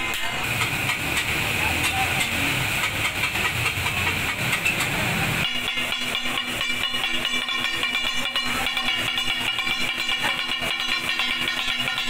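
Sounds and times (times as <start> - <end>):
steel spatulas clanging on griddle: 0.0 - 12.0
hiss of steam: 0.2 - 11.0.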